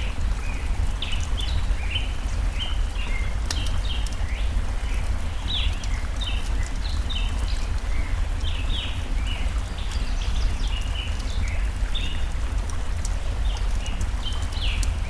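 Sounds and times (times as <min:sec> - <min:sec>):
faint fire crackles: 0:00.0 - 0:15.0
stream rushing: 0:00.0 - 0:15.0.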